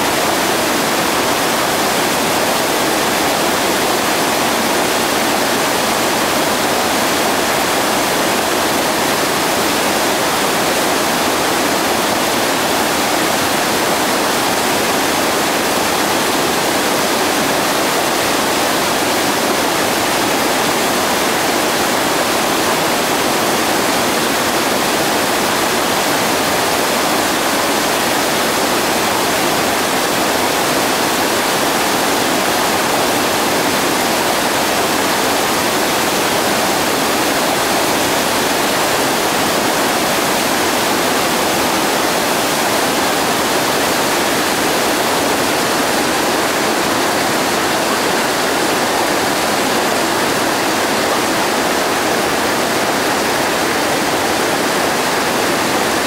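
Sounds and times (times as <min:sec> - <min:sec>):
whitewater rapid roaring: 0:00.0 - 0:56.0.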